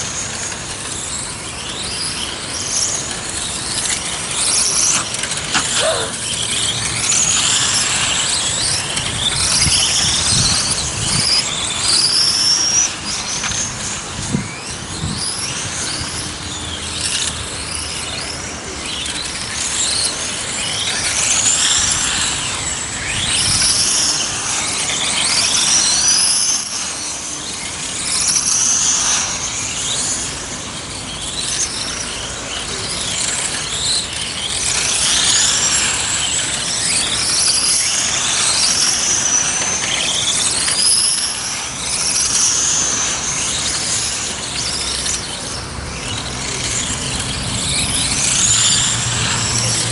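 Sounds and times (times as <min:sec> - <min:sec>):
rc car motors whining: 0:00.0 - 0:49.9.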